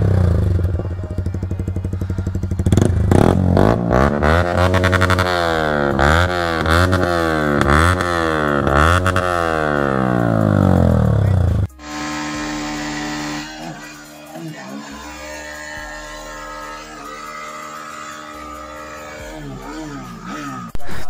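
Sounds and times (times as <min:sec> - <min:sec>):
loud motorcycle engine revving: 0:00.0 - 0:21.0.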